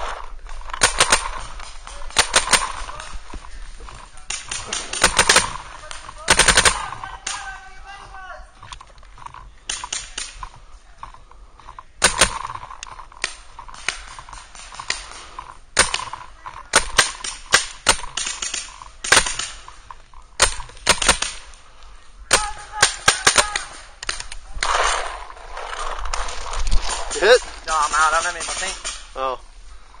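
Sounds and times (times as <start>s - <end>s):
paintball markers firing: 0.0s - 7.6s, 8.7s - 21.7s, 22.3s - 29.2s.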